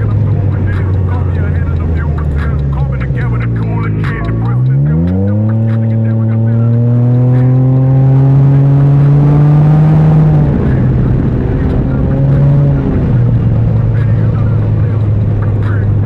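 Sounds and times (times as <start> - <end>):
three-wheeler engine revving: 0.0 - 16.0.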